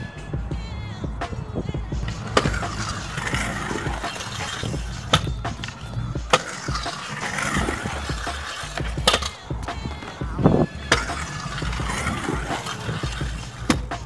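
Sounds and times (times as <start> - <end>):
scooter wheels rolling on concrete: 0.0 - 14.0
scooter knocking on concrete: 0.4 - 14.0.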